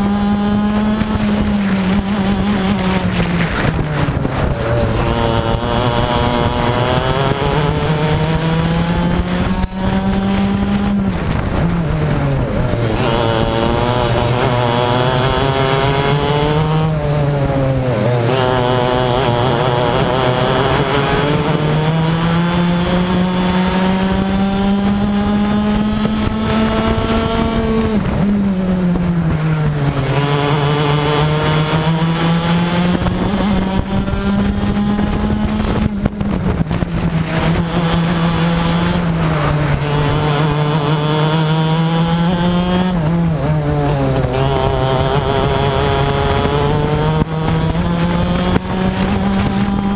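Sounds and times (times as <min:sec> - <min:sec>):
kart two-stroke engine racing: 0:00.0 - 0:49.9.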